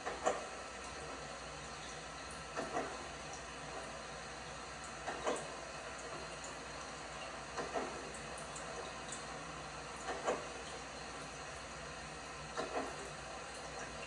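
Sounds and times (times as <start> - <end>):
steady running hiss: 0.0 - 14.0.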